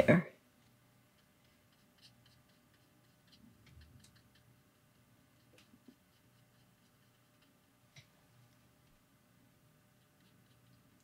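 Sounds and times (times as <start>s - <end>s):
brush stroking paper: 0.6s - 8.7s, 9.8s - 11.0s.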